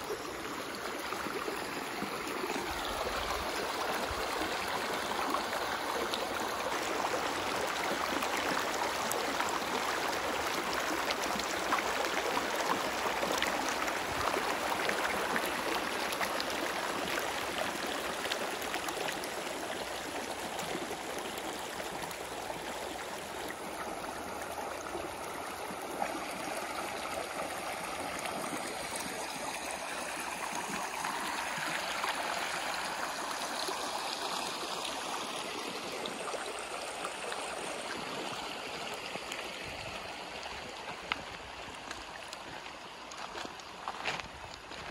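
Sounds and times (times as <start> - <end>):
stream babbling over stones: 0.0 - 44.9.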